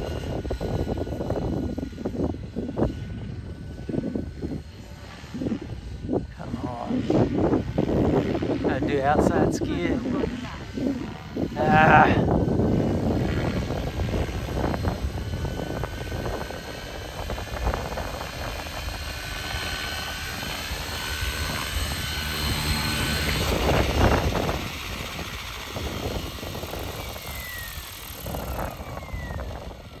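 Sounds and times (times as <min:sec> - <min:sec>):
rc helicopter rotor whine: 0:00.0 - 0:30.0.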